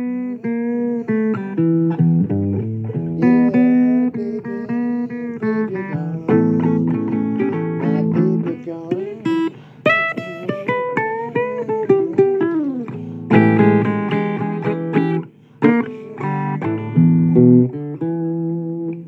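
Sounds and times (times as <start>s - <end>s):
blues guitar playing: 0.0s - 19.0s.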